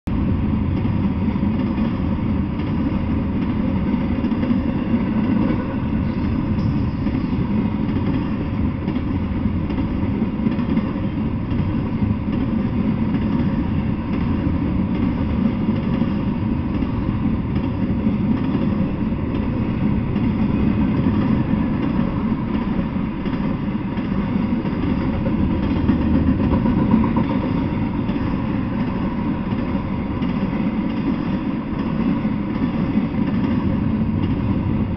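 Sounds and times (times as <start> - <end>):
freight train wheels rumbling: 0.1 - 34.9.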